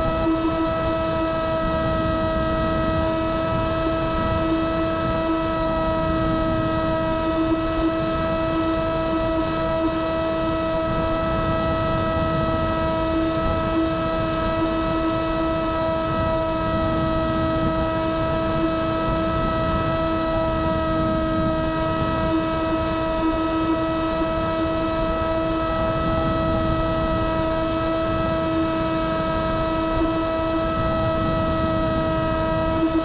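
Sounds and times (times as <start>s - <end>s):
electric motor propeller whine: 0.0s - 33.0s.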